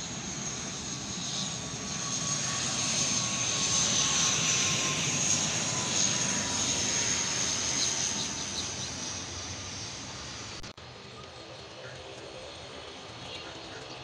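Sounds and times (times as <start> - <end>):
propeller airliner landing: 0.0 - 14.0.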